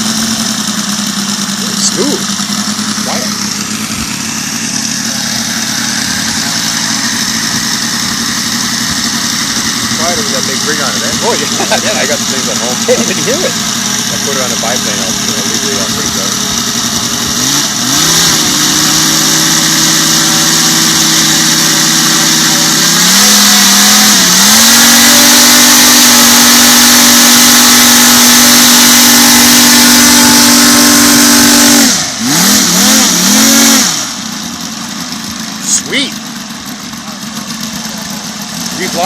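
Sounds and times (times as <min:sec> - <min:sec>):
radial aircraft engine running: 0:00.0 - 0:39.0.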